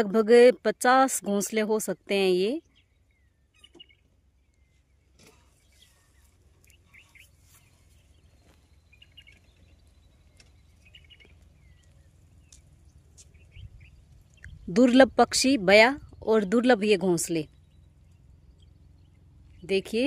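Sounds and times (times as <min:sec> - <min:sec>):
low steady rumble: 0:00.0 - 0:20.0
birds chirping and calling: 0:01.4 - 0:20.0.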